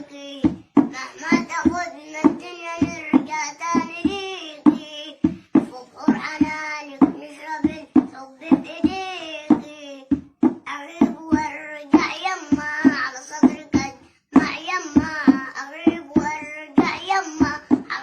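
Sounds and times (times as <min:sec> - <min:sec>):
boy singing: 0:00.0 - 0:18.0
percussive beat: 0:00.0 - 0:18.0.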